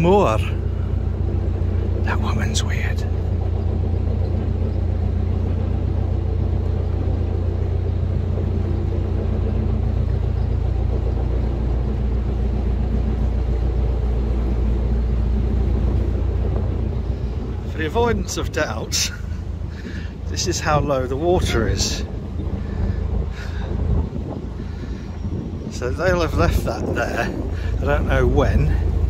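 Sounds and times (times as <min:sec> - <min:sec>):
boat diesel engine droning: 0:00.0 - 0:29.0.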